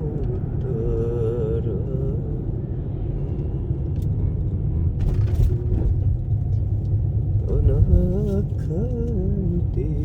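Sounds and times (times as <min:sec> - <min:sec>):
car road noise inside cabin: 0:00.0 - 0:10.0.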